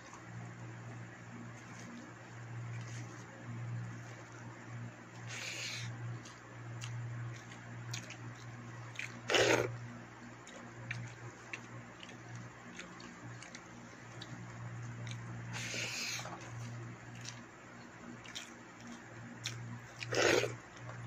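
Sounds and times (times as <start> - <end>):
steady low hum: 0.0 - 21.0
chewing and lip-smacking: 1.5 - 21.0.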